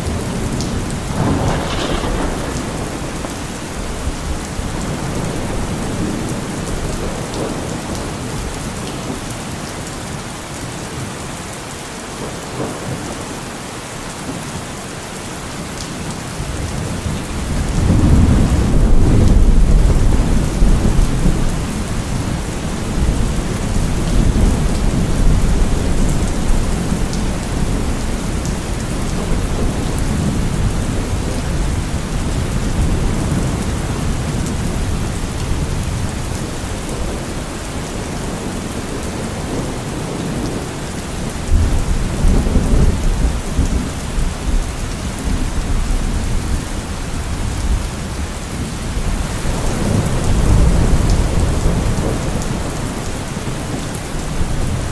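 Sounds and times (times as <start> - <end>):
thunder rumbling: 0.0 - 8.6, 16.5 - 54.9
heavy rain: 0.0 - 54.9.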